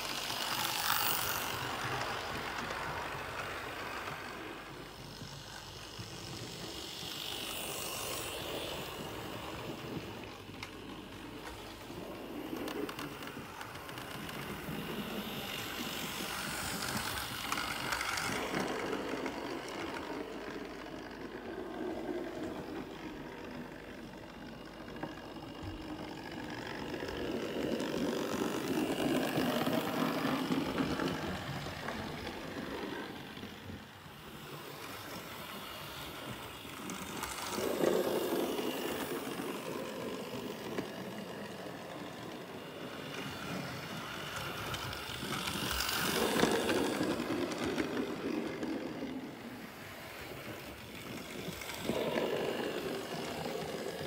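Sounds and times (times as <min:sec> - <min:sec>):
model train clattering on track: 0:00.0 - 0:54.0.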